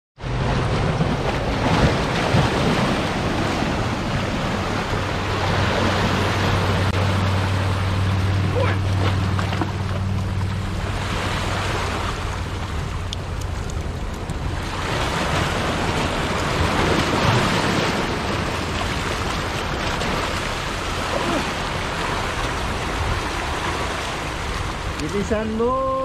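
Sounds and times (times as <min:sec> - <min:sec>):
ocean waves washing over rocks: 0:00.2 - 0:26.0.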